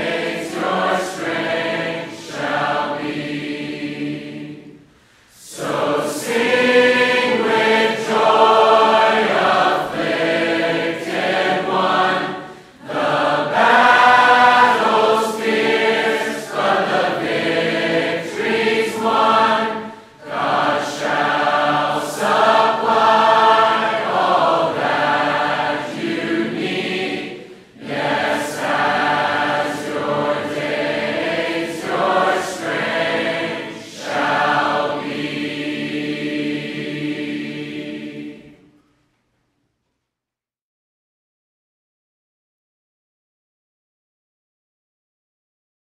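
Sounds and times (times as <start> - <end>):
congregation singing a hymn: 0.0 - 38.8.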